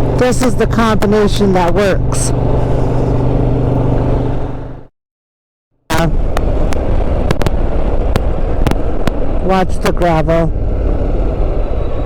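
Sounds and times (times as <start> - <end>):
motorcycle engine hum: 0.0 - 4.9, 5.9 - 12.0
wind and road noise: 0.0 - 4.9, 5.9 - 12.0.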